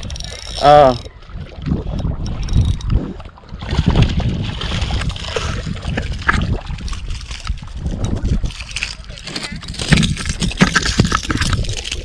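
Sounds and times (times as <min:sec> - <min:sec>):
water splashing against rocks: 0:00.0 - 0:12.0
wind rumbling on microphone: 0:00.0 - 0:12.0.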